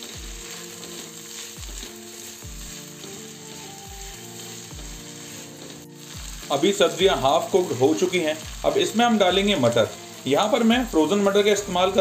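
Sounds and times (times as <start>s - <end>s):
background music with low beat: 0.0s - 12.0s
vegetables sizzling in oil: 0.0s - 12.0s.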